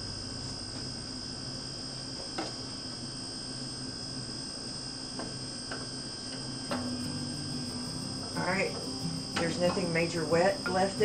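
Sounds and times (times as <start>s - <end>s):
steady hum with high whine: 0.0s - 11.0s.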